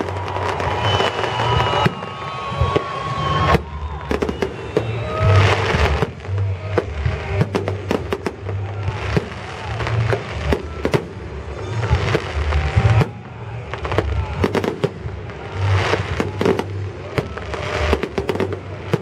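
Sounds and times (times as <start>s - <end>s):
fireworks bangs and pops: 0.0s - 19.0s
fireworks crackling: 0.0s - 19.0s.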